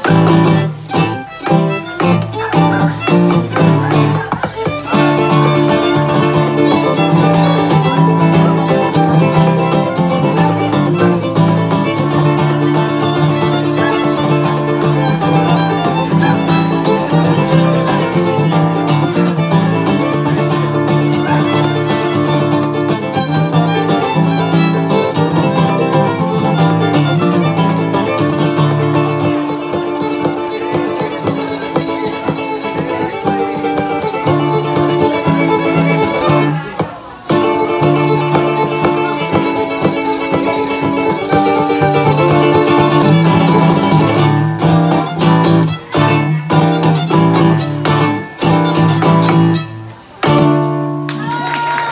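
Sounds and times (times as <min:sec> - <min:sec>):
bowed violin melody: 0:00.0 - 0:50.7
picked acoustic guitar: 0:00.0 - 0:51.9.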